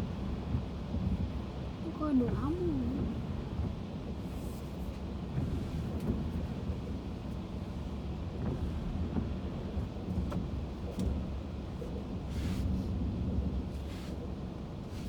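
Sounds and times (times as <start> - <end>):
engine and tyre rumble: 0.0 - 15.0.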